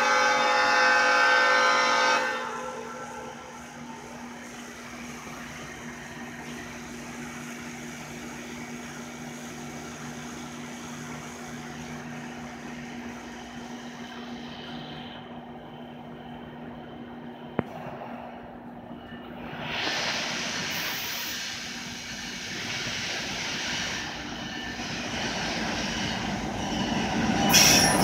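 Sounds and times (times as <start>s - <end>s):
distant locomotive engine rumble: 0.0s - 28.0s.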